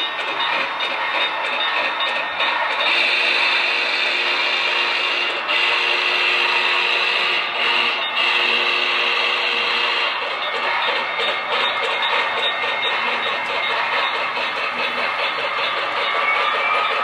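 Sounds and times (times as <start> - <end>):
model train whirring: 0.0 - 17.0.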